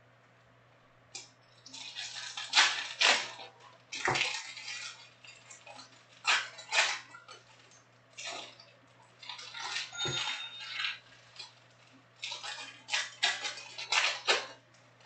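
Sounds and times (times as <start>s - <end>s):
foil packs crinkling: 1.7s - 8.6s, 9.2s - 14.6s.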